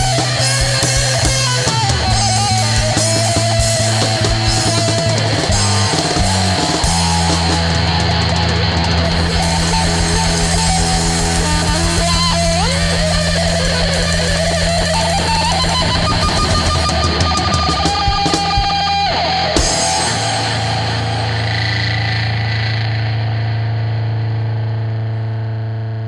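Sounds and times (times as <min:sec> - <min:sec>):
psychedelic rock band playing: 0:00.0 - 0:23.6
electric guitar sliding up: 0:00.0 - 0:26.0.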